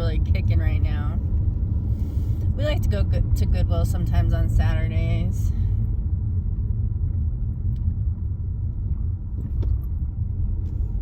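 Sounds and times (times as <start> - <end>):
car rumble from inside cabin: 0.0 - 11.0.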